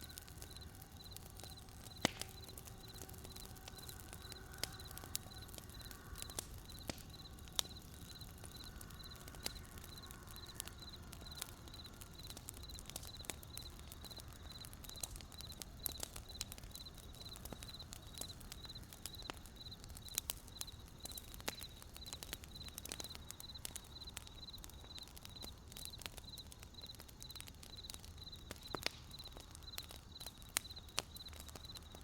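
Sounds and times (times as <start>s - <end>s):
campfire crackling and popping: 0.0s - 32.0s
cricket chirping: 0.0s - 32.0s.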